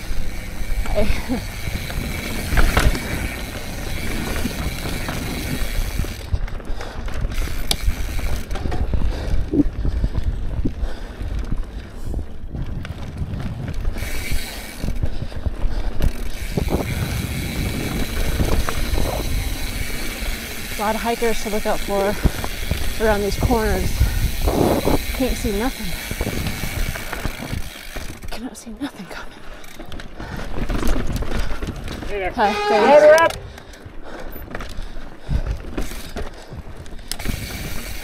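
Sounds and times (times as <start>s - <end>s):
bike frame and chain rattling: 0.0s - 38.0s
bike tires crunching on gravel: 0.0s - 38.0s.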